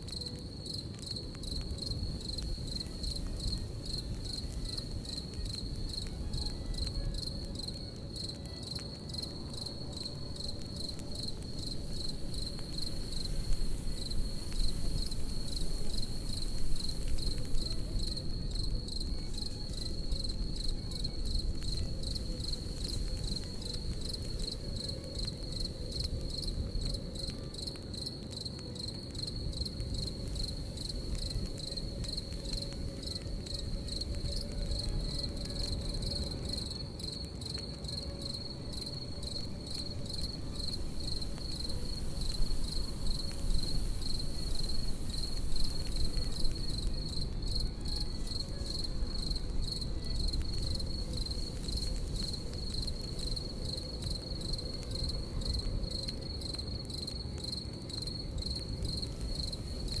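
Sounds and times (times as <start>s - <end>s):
campfire crackling: 0.0s - 60.0s
crickets chirping: 0.0s - 60.0s.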